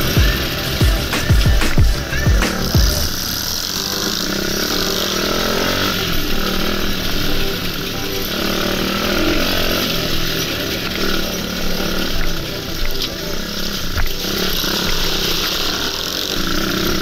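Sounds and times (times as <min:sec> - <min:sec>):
dirt bike engine buzzing: 0:00.0 - 0:17.0.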